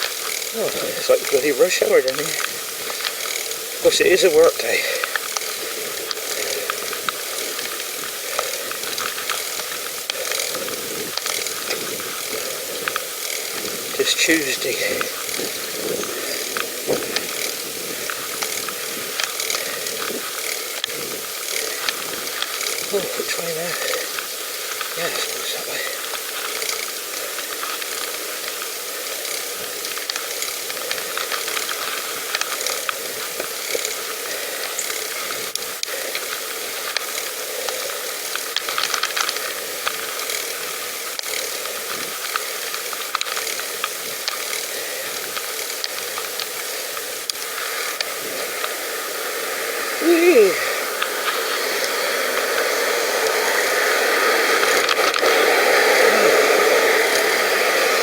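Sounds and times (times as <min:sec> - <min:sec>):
bicycle freewheel ticking and rattling: 0:00.0 - 0:58.0
tyre hiss: 0:00.0 - 0:58.0.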